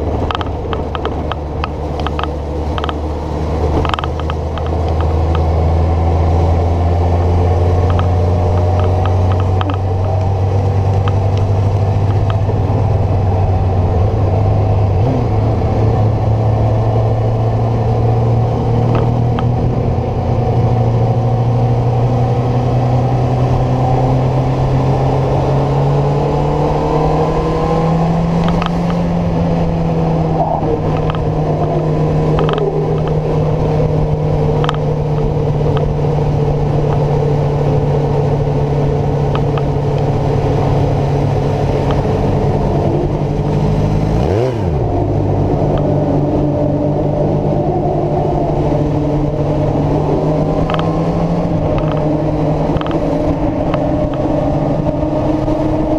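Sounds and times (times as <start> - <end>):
motorcycle engine at high speed: 0.0 - 55.9.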